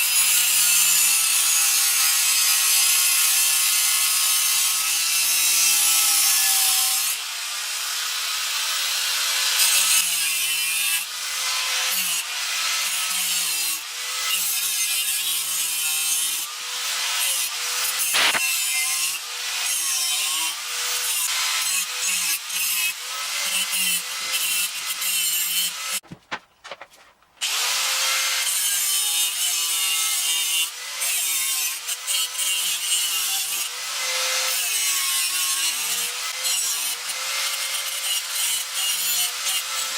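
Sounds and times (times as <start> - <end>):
power grinder cutting steel pipe: 0.0 - 26.0, 27.4 - 39.9.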